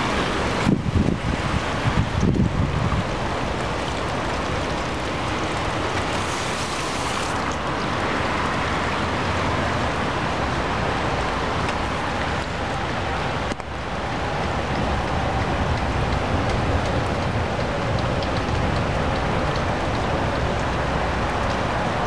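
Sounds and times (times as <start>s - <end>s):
rain falling: 0.0s - 22.0s
water running along gutter: 0.0s - 22.0s.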